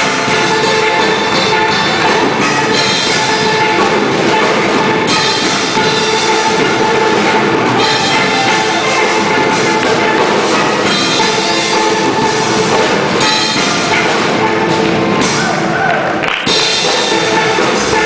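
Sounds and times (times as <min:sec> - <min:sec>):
steel pans playing a melody: 0:00.0 - 0:15.8, 0:16.4 - 0:18.0
drum kit beat: 0:00.0 - 0:18.0.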